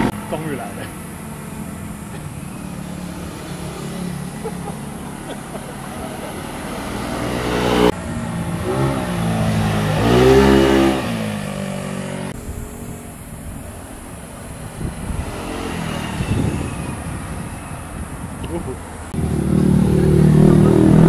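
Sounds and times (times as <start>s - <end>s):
motorcycles passing by revving: 0.0s - 21.0s.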